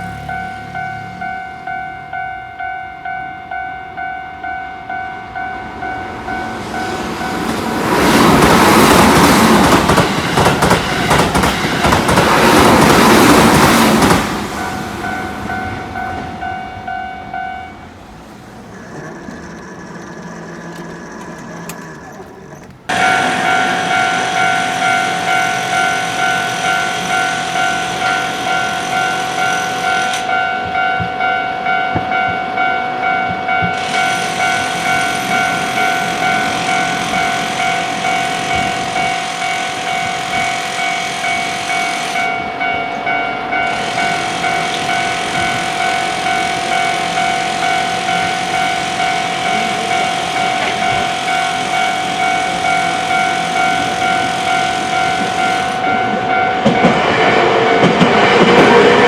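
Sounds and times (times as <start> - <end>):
level crossing alarm bell ringing: 0.0 - 59.0
train wheels and running noise: 5.4 - 59.0.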